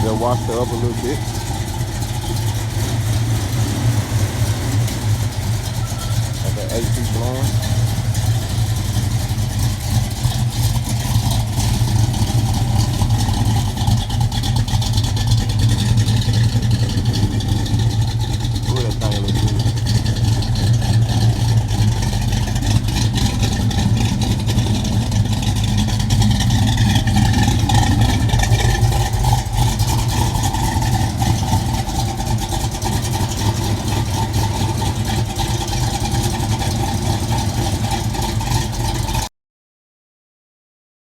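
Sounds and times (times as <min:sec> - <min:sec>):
car engine idling: 0:00.0 - 0:39.3.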